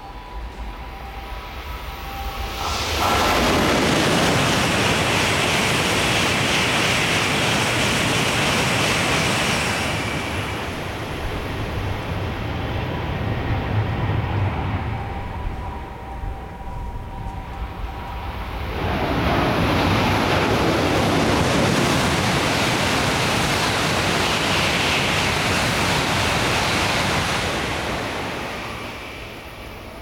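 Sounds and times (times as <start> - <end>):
high-speed train passing: 0.0 - 30.0
rush of air and rail noise: 0.0 - 30.0.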